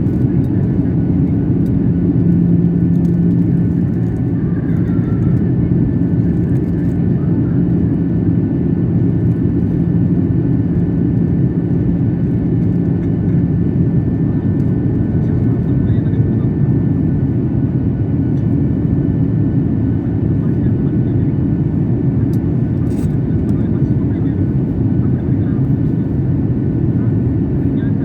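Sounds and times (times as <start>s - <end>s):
airliner engines and airflow rumble: 0.0s - 28.0s
steady hum: 0.0s - 28.0s.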